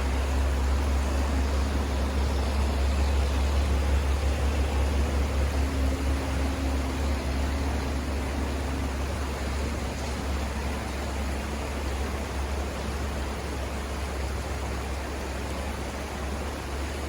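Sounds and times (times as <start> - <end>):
river water flowing over rapids: 0.0 - 17.0.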